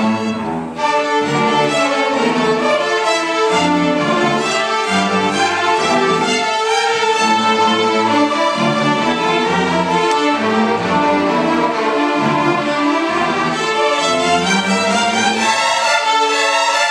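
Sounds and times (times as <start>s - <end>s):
string orchestra playing: 0.0s - 16.9s.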